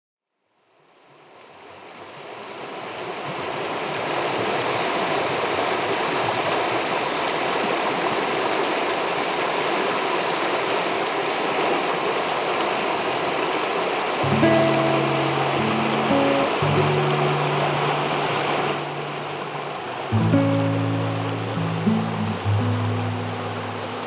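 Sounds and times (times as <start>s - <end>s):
river water flowing: 0.7s - 24.0s.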